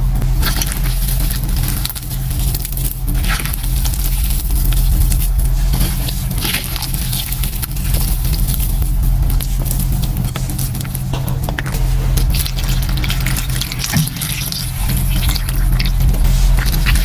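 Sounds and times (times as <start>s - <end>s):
low hum: 0.0s - 17.0s
hands squishing wet chalk paste: 0.2s - 17.0s.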